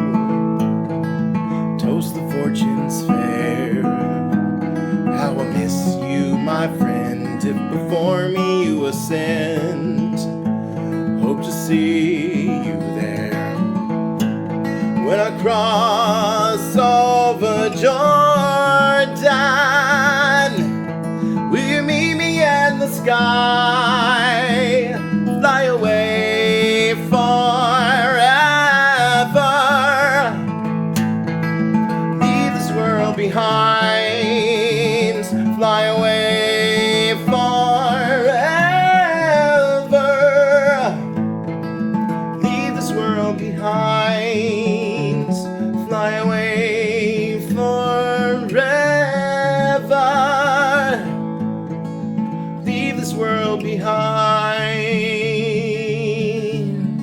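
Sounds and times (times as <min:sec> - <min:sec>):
acoustic guitar chords: 0:00.0 - 0:57.0.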